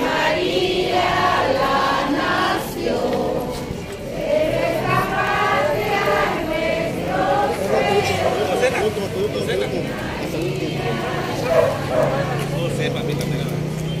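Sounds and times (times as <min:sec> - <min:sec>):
crowd singing a hymn: 0:00.0 - 0:13.0.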